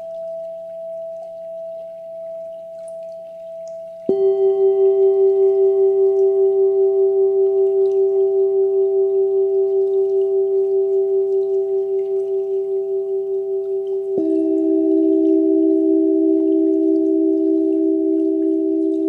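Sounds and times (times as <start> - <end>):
meditation bell ringing: 0.0 - 19.0.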